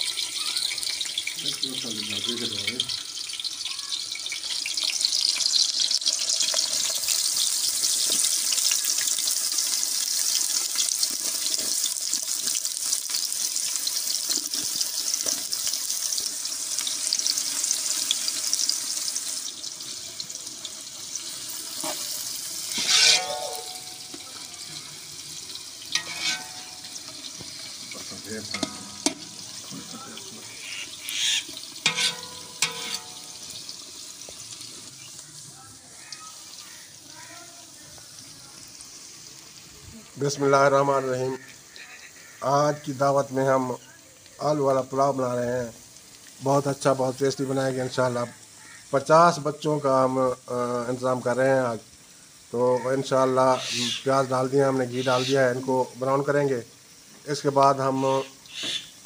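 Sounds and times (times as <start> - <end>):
onions sizzling in hot fat: 0.0 - 59.0.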